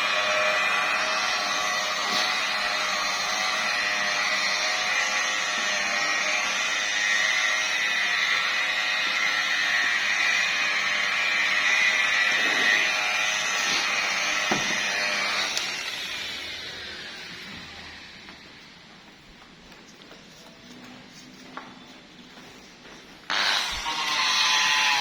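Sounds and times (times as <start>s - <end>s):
electric polisher whining: 0.0s - 18.7s, 23.3s - 25.0s.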